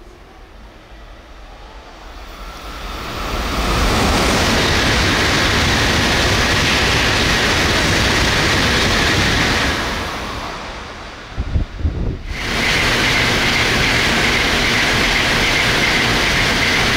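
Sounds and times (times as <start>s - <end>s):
high-speed train passing: 0.0s - 16.9s.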